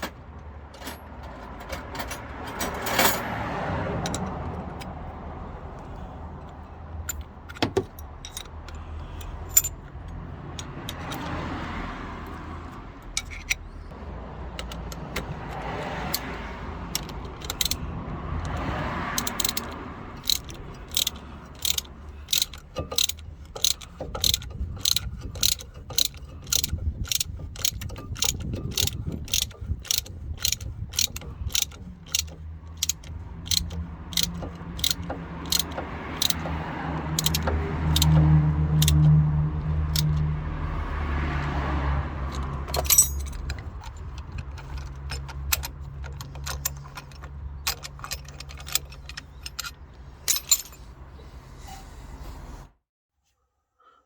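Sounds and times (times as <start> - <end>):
ratchet wrench clicking: 5.8 - 13.9, 14.6 - 41.6, 42.2 - 50.9.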